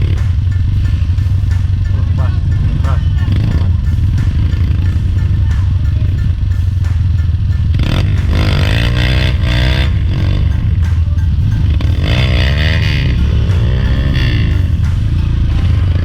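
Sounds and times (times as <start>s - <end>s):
motorcycle engine running: 0.0s - 16.0s
music with melodic lead: 0.0s - 16.0s.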